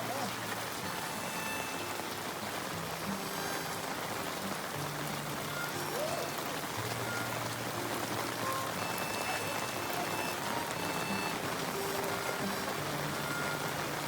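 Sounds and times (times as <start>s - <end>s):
heavy rain falling: 0.0s - 14.0s
soft music of held notes: 0.0s - 14.0s.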